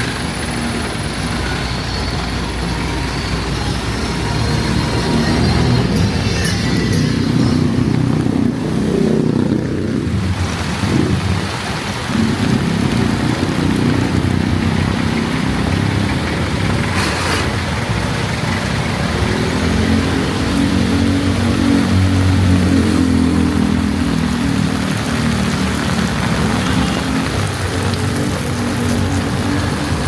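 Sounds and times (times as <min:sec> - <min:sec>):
car engines accelerating: 0:00.0 - 0:30.0
rain hiss: 0:00.0 - 0:30.0.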